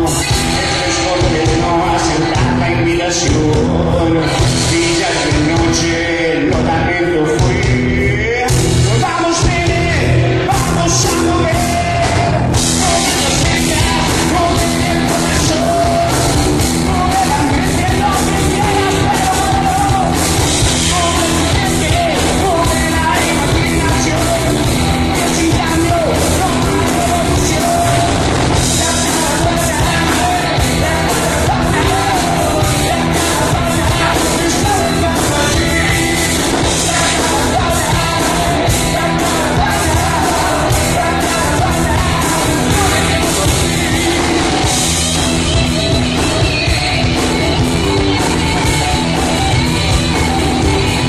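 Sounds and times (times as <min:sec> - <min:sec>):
person singing: 0:00.0 - 0:51.0
reggae-rock band playing: 0:00.0 - 0:51.0.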